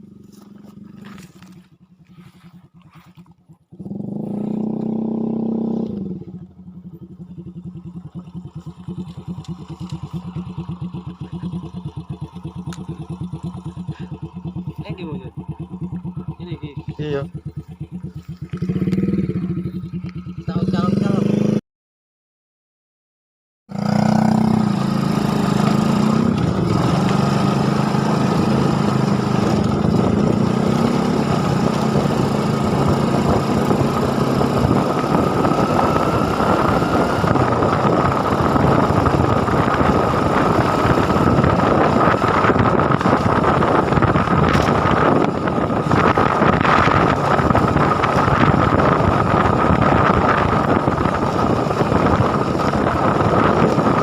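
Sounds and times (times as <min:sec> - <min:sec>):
small engine running: 0:00.0 - 0:21.4, 0:23.7 - 0:54.0.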